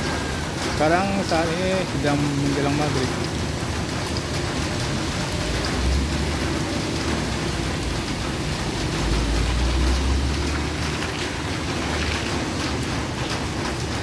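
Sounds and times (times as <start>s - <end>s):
heavy rain falling: 0.0s - 14.0s
traffic on wet road: 0.0s - 14.0s.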